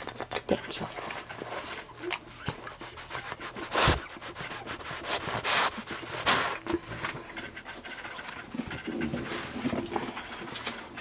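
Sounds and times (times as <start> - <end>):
puppies snuffling: 0.0 - 11.0
puppies suckling: 0.0 - 11.0.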